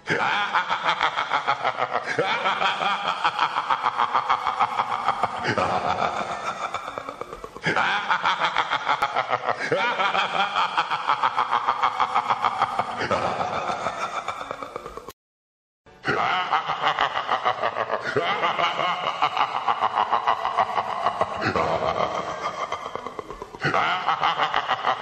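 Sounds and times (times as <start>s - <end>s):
man laughing wickedly: 0.0s - 15.1s, 16.0s - 25.0s.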